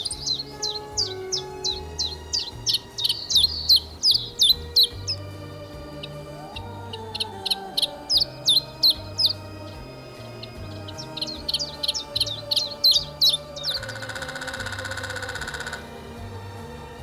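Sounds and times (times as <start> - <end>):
small bird chirping: 0.0 - 16.0
rapidly pulsing buzz: 0.0 - 17.0.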